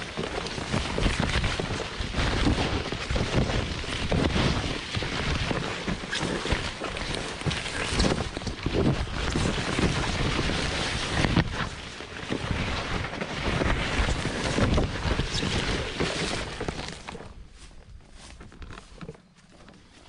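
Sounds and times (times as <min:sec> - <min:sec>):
wind buffeting microphone: 0:00.0 - 0:18.3.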